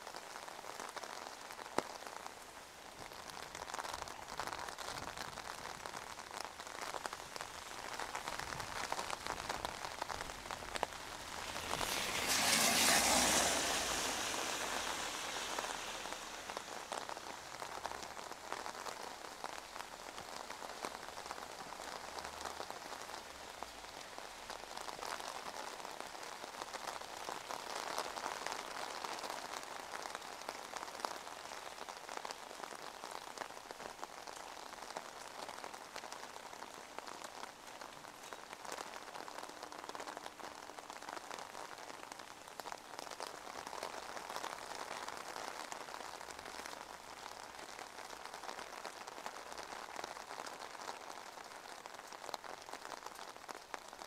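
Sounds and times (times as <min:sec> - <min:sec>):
rain on wet pavement: 0:00.0 - 0:54.0
tyres hissing on wet road: 0:00.1 - 0:53.8.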